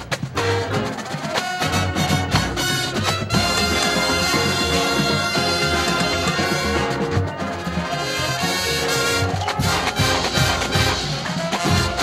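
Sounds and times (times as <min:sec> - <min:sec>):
marching drum strokes: 0:00.0 - 0:12.0.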